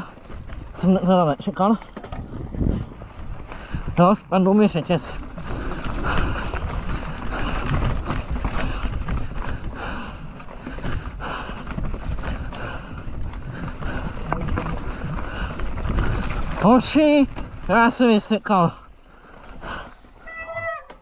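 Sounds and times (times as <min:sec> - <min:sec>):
bike rattling clicks and knocks: 0:00.0 - 0:21.0
bike rumble over rough ground: 0:00.0 - 0:21.0.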